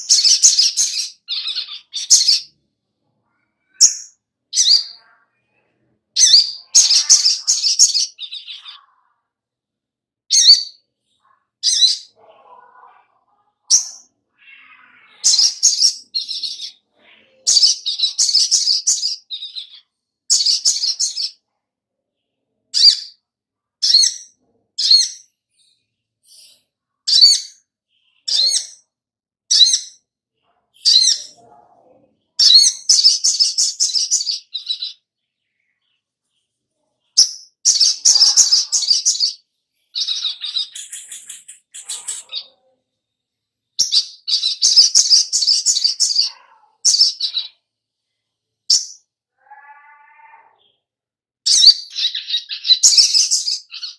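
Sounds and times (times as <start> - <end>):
bird chirping: 0.0 - 9.4, 10.3 - 21.6, 22.2 - 50.9, 51.5 - 53.9.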